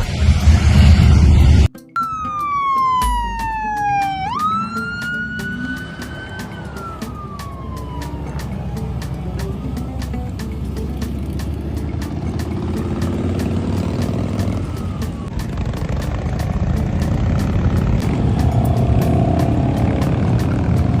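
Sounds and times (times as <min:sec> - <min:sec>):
siren wailing: 0:00.8 - 0:10.4, 0:12.2 - 0:21.0
motorcycle engines rumbling: 0:03.4 - 0:21.0.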